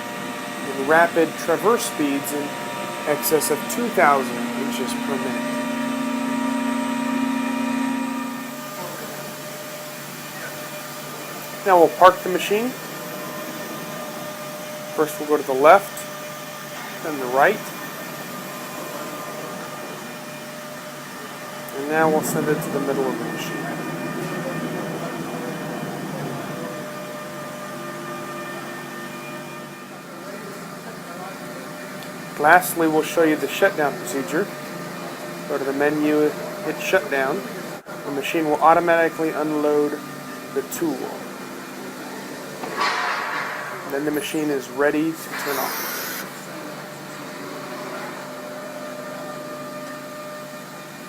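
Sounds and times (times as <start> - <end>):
machine whining tones: 0.0 - 37.6, 39.0 - 51.0
cnc router humming: 0.0 - 42.6, 43.7 - 51.0.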